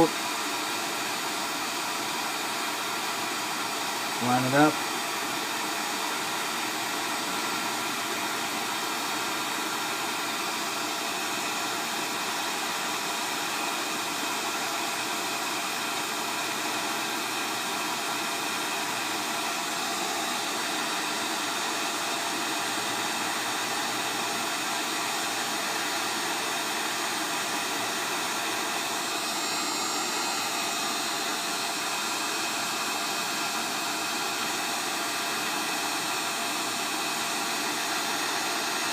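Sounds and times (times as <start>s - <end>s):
heat gun blowing hiss: 0.0s - 38.9s.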